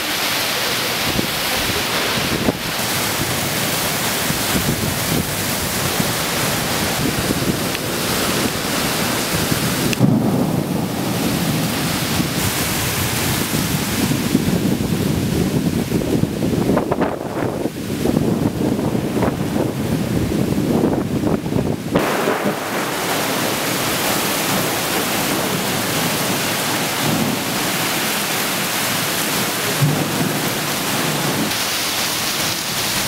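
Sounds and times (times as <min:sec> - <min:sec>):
heavy rain rushing: 0:00.0 - 0:33.0
wind buffeting the microphone: 0:00.9 - 0:33.0.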